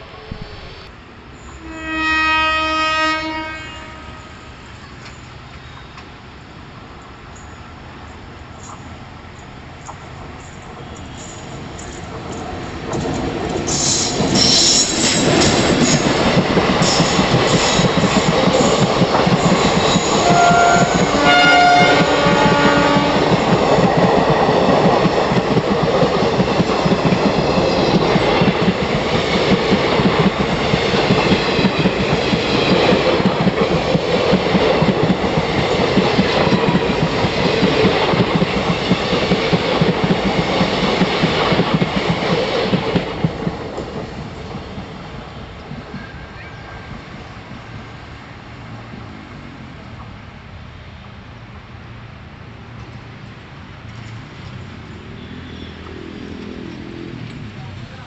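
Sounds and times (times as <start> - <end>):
train coaches rumbling past: 0.0 - 58.0.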